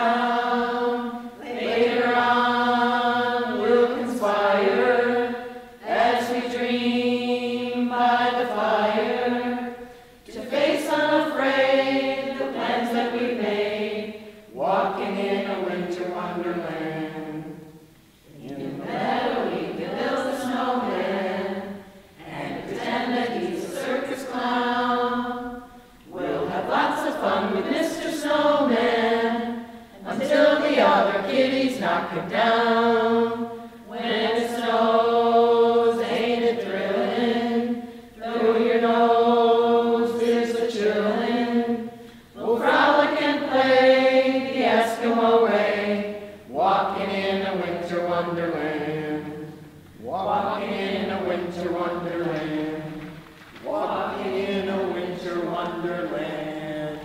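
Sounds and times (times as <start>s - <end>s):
mixed group singing a cappella: 0.0s - 57.0s.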